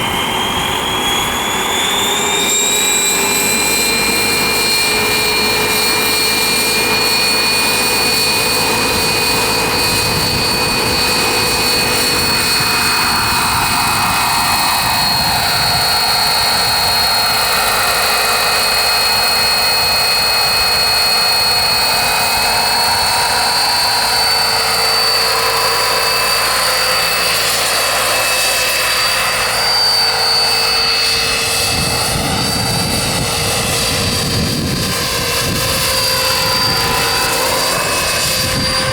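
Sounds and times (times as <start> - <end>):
gas turbine whistling whine: 0.0 - 38.9.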